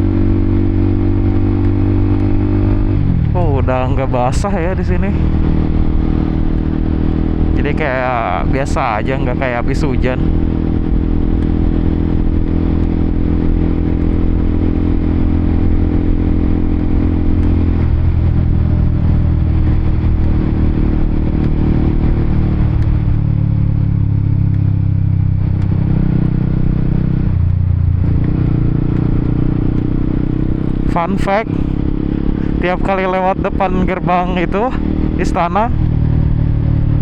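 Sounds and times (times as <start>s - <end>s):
motorcycle engine: 0.0s - 37.0s
wind and road noise: 0.0s - 37.0s.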